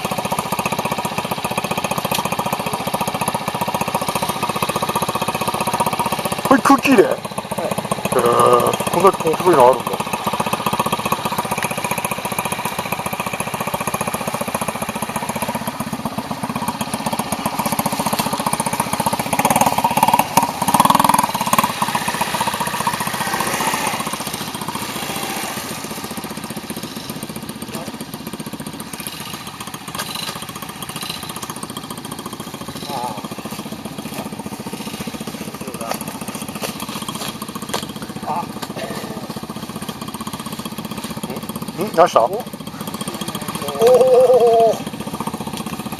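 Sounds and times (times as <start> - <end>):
small motorcycle engine running: 0.0 - 45.9.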